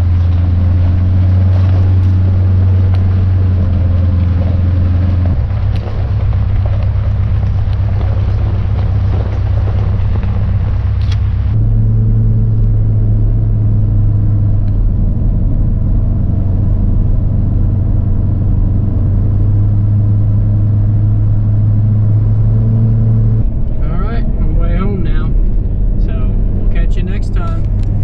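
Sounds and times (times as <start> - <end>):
truck engine drone: 0.0 - 28.0.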